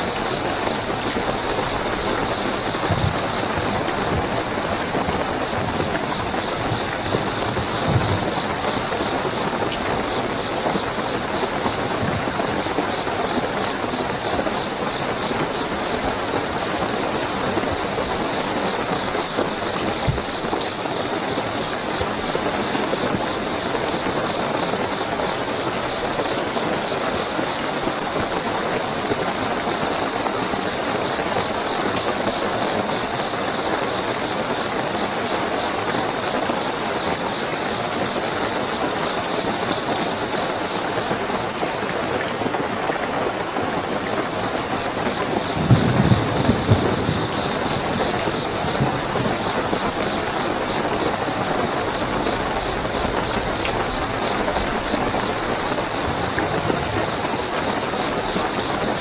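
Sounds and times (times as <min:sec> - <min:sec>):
cricket trill: 0:00.0 - 0:59.0
heavy rainfall: 0:00.0 - 0:59.0.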